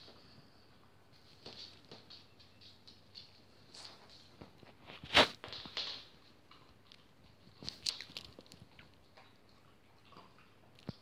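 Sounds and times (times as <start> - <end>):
dog paws clicking on floor: 1.1 - 11.0.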